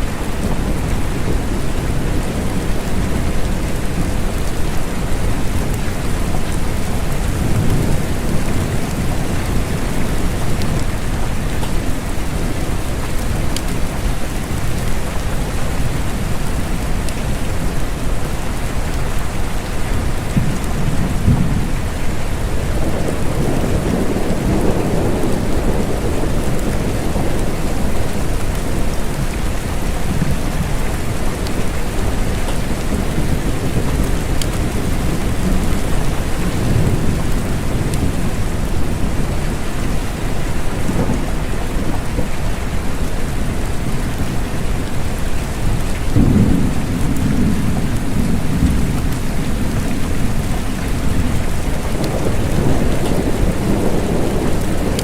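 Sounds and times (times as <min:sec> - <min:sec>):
rain falling: 0:00.0 - 0:55.0
thunder rumbles: 0:00.1 - 0:17.4, 0:19.5 - 0:55.0.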